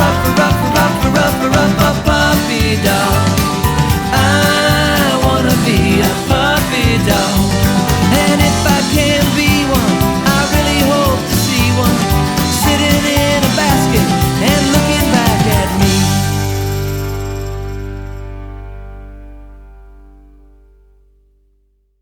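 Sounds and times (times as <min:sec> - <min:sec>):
upbeat country song with guitar: 0:00.0 - 0:19.1.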